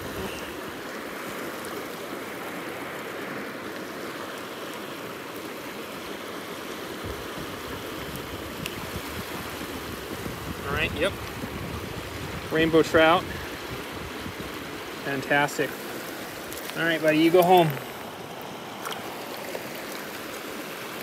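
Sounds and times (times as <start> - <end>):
creek rushing over rocks: 0.0 - 21.0.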